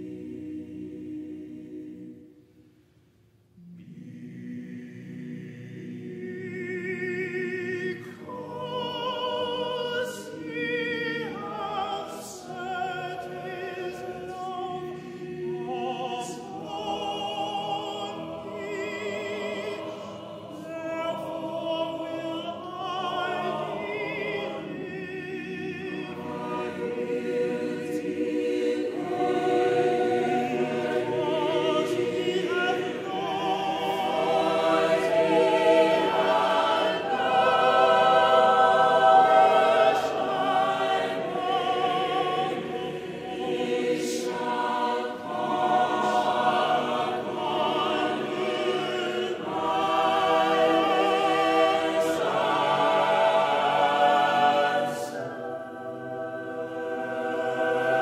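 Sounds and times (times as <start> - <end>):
mixed choir singing: 0.0 - 2.5, 3.6 - 58.0
string accompaniment: 11.2 - 58.0.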